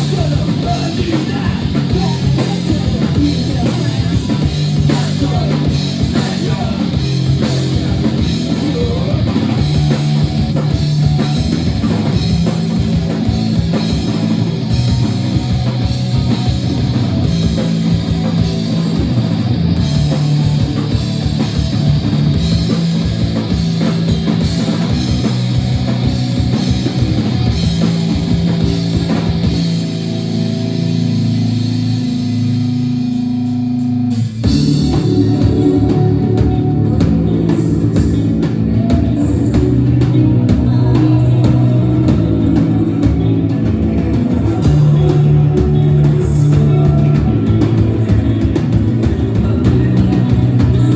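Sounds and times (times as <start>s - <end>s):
drum kit: 0.0s - 50.9s
rock band playing: 0.0s - 50.9s.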